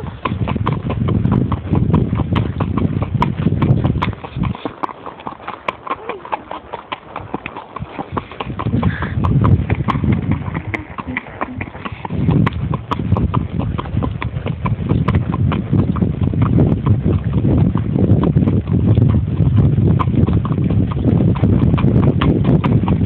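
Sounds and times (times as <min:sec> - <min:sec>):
hooves on gravel: 0:00.0 - 0:19.2.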